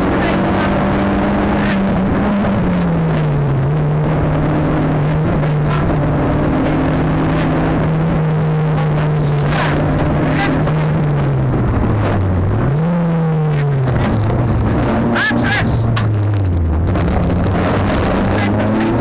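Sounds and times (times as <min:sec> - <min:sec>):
car engine running: 0:00.0 - 0:19.0
road noise: 0:00.0 - 0:19.0.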